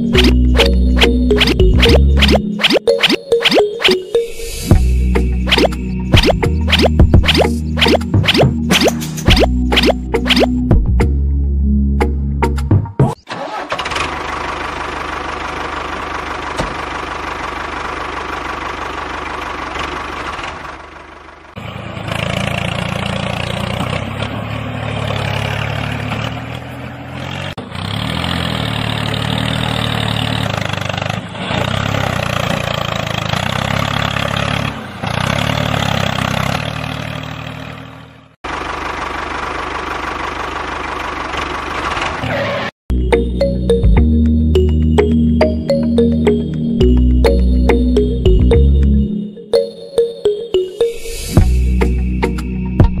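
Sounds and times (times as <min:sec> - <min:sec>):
engine running: 0:00.0 - 0:11.4, 0:13.3 - 0:49.1.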